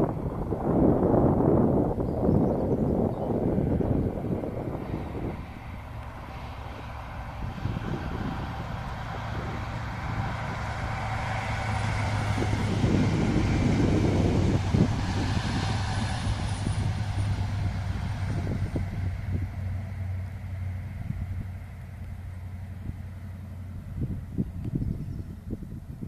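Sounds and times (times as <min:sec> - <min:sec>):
diesel train passing: 0:00.0 - 0:25.9.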